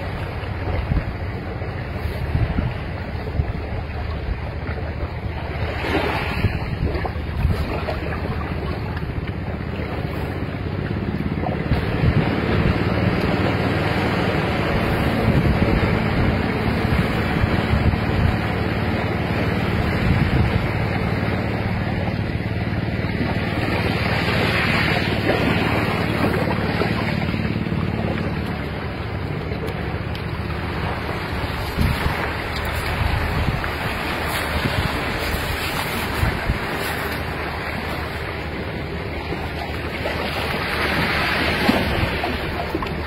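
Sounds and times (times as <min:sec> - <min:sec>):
wind noise on microphone: 0:00.0 - 0:29.4, 0:30.3 - 0:43.0
surf washing on shore: 0:00.0 - 0:43.0.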